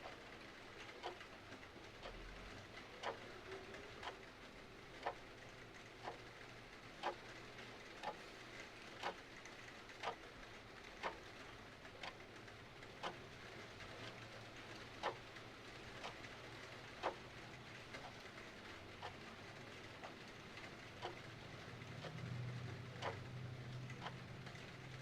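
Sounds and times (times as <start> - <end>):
mechanical clock ticking: 0.0 - 25.0.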